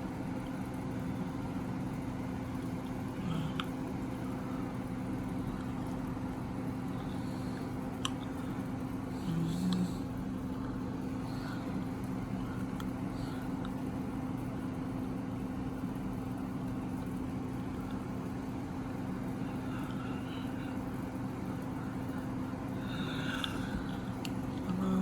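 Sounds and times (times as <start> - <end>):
air conditioner hum: 0.0 - 25.0.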